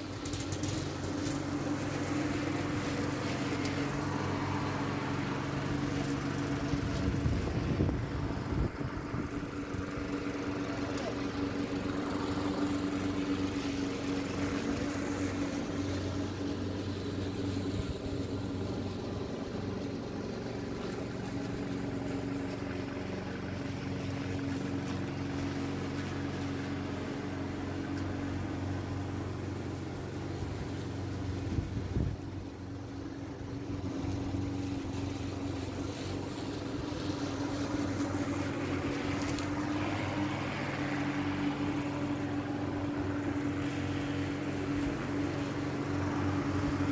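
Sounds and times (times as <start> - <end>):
lawn mower engine running: 0.0 - 46.9.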